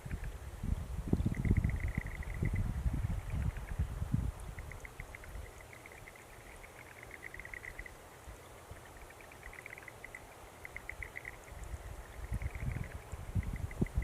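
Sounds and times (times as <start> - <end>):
birds chirping: 1.1 - 3.8, 4.4 - 14.0.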